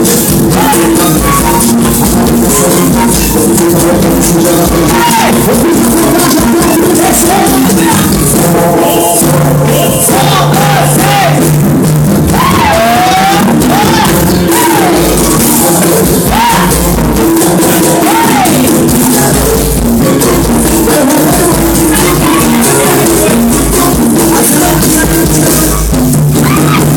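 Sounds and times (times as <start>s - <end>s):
person singing: 0.0s - 11.5s, 12.3s - 26.9s
shaker-like percussion: 0.0s - 26.9s.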